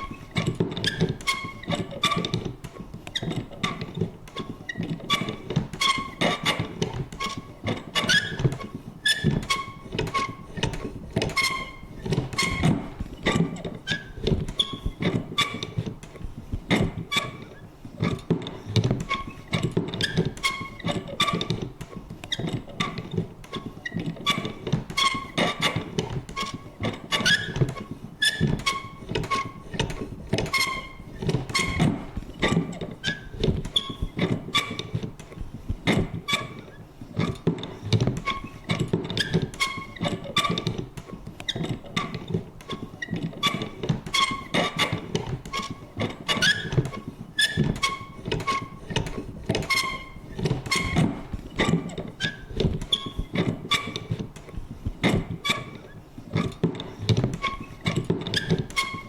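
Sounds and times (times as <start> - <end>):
paper punch clicking and squeaking: 0.0 - 59.0.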